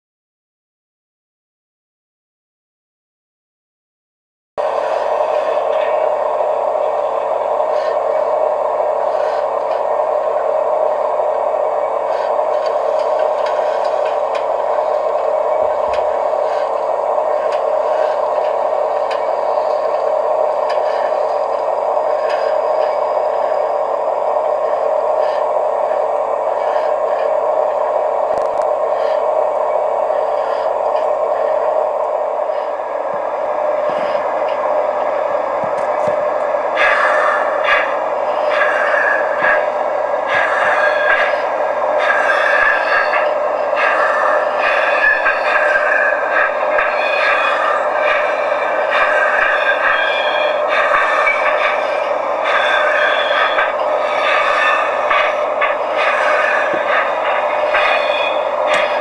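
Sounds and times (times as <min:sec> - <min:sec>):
model locomotive motor whirring: 0:04.7 - 0:32.8, 0:33.6 - 0:59.0.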